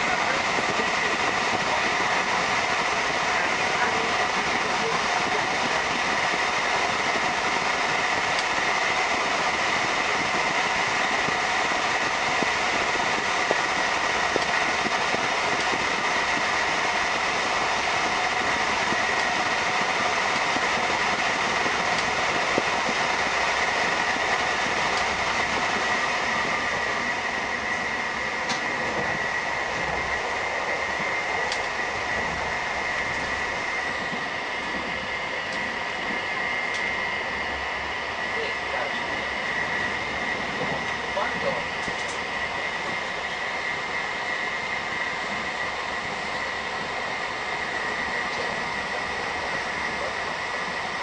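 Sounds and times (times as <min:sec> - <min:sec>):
high whine: 0:00.0 - 0:51.0
train wheels on rails: 0:00.0 - 0:51.0.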